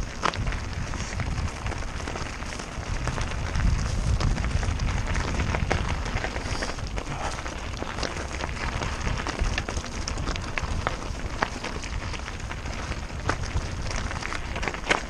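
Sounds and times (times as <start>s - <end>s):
bike rattling clicks and knocks: 0.0s - 15.0s
tyres crunching over gravel: 0.0s - 15.0s
wind buffeting microphone: 0.0s - 15.0s.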